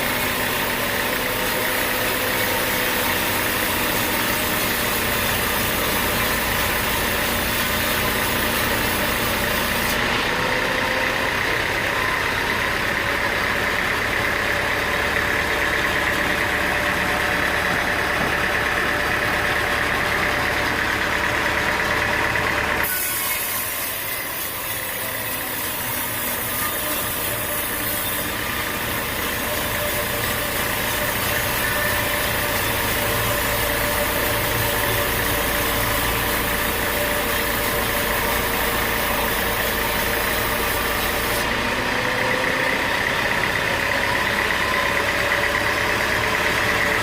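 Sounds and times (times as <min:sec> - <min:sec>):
high machinery whine: 0:00.0 - 0:47.0
sawmill machinery drone: 0:00.0 - 0:47.0.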